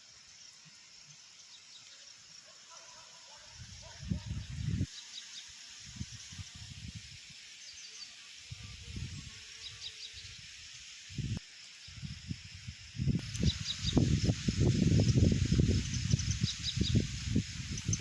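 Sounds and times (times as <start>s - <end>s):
small birds chirping: 0.0s - 12.4s, 13.0s - 18.0s.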